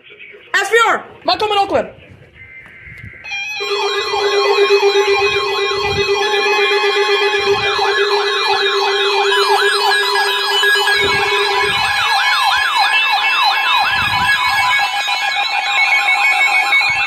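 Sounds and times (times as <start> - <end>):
steady alert tones: 3.2 - 17.0
yelping siren sweep: 3.2 - 17.0.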